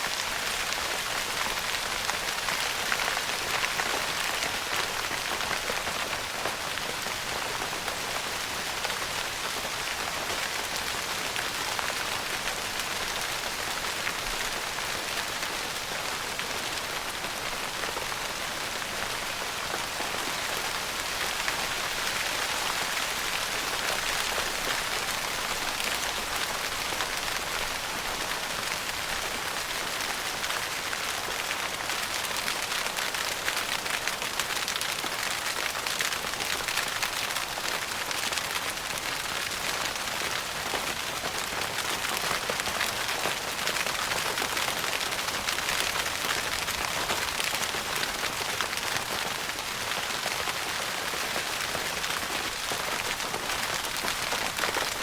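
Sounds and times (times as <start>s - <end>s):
rain pattering on tent fabric: 0.0s - 55.0s.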